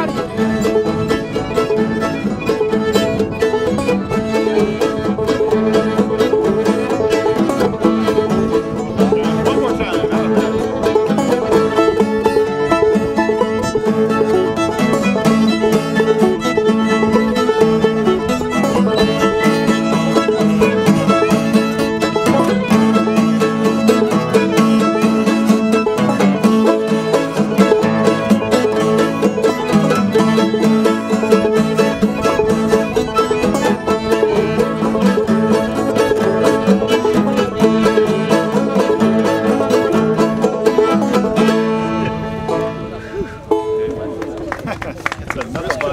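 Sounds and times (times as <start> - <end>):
banjo-like plucked notes: 0.0 - 45.2
fiddle: 0.0 - 45.9.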